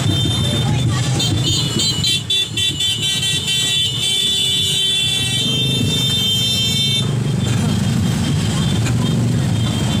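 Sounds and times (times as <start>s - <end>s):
motorcycle engines running: 0.0s - 10.0s
motorcycle horns honking: 0.0s - 10.0s.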